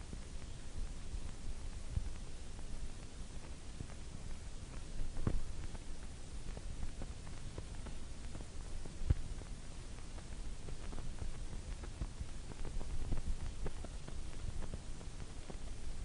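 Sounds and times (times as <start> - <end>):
background hiss: 0.0 - 16.0
faint clicks and knocks: 0.0 - 16.0.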